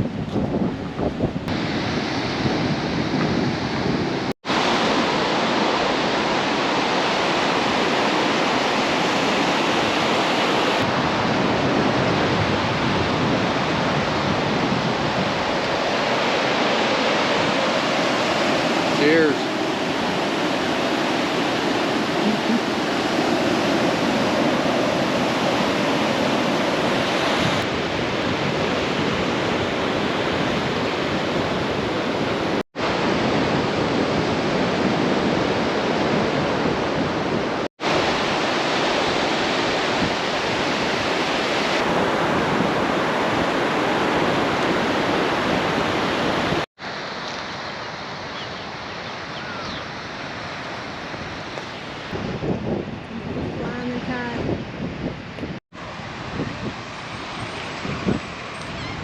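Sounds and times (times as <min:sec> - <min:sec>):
ocean waves washing on beach: 0:00.0 - 0:59.0.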